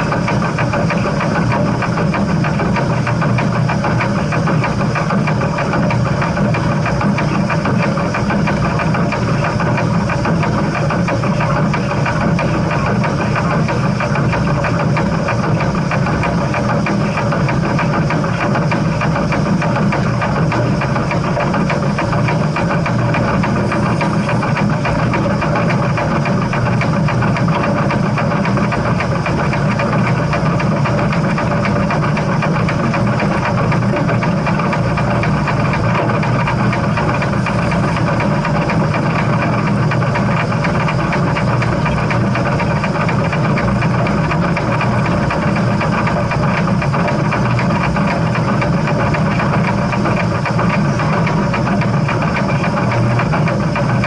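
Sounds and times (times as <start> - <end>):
steam train rumbling: 0.0 - 54.0.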